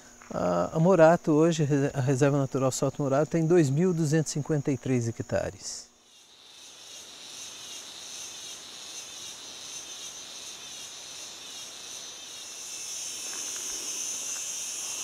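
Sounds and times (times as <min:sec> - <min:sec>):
forest insects chorus: 0:00.0 - 0:15.0.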